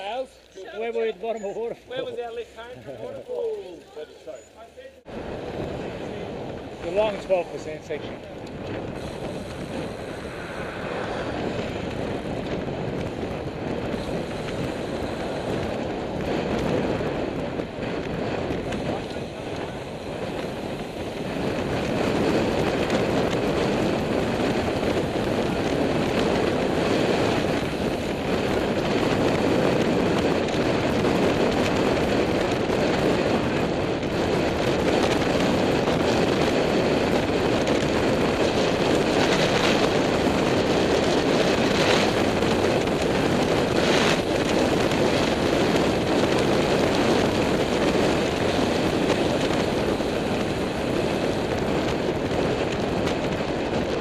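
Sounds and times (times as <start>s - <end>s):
wind rushing over microphone: 5.0s - 54.0s.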